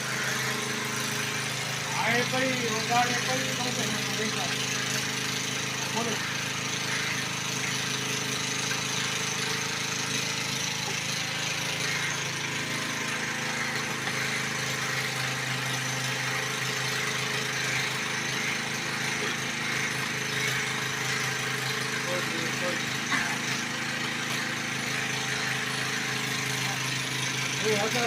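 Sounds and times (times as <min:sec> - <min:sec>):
machine humming with hiss: 0:00.0 - 0:28.0.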